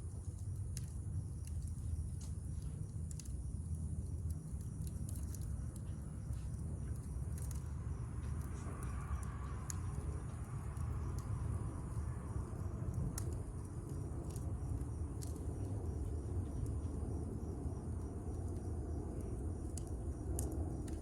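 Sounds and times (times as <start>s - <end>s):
campfire crackling: 0.0s - 21.0s
faint high drone of insects: 0.0s - 21.0s.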